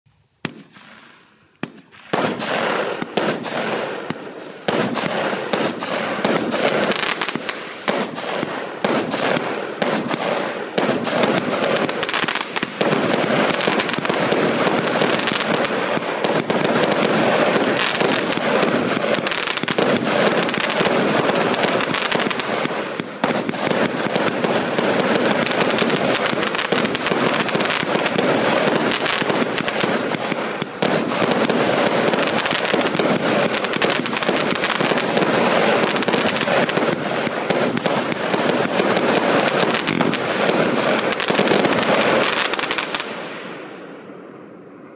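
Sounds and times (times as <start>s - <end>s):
firework cake bangs with crackle: 1.6s - 43.4s.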